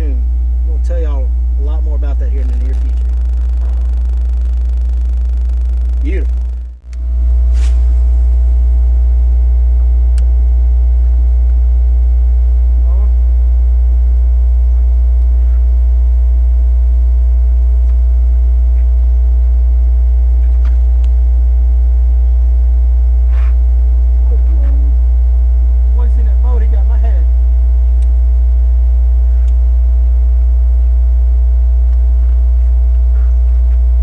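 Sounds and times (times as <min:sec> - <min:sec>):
loud electrical hum: 0:00.0 - 0:34.0.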